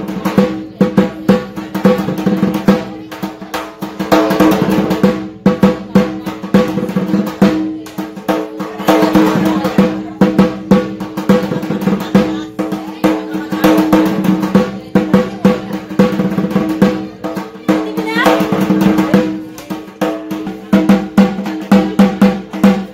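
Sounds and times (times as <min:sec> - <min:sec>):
barrel drum beaten rapidly: 0:00.0 - 0:22.9.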